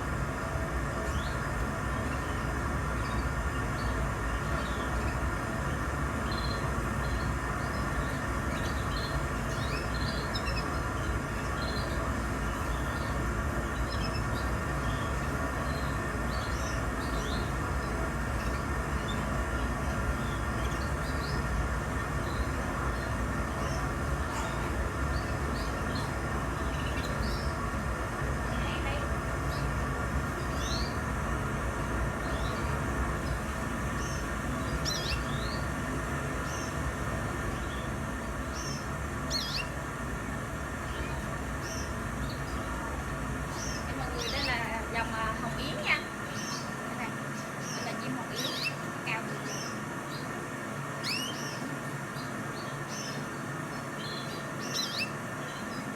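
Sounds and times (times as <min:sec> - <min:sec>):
loud droning background noise: 0:00.0 - 0:55.9
steady low hum: 0:00.0 - 0:55.9
canaries chirping: 0:00.1 - 0:55.9.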